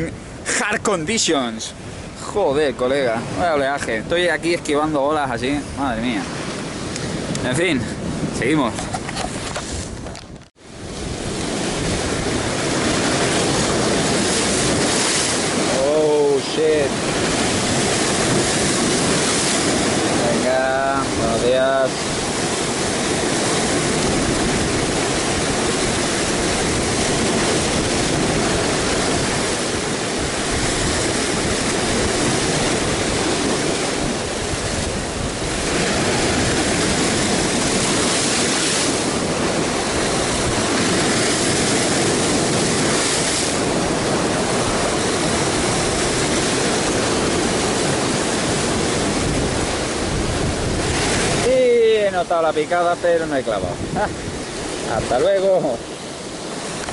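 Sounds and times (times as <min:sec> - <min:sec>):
surf breaking over rocks: 0:00.0 - 0:56.9.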